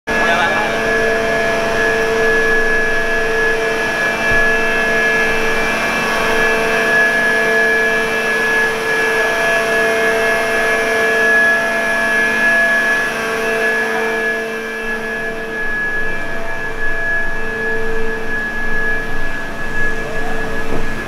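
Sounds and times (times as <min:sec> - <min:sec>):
diesel generator drone: 0:00.1 - 0:21.0
high-pitched whine: 0:00.1 - 0:21.0.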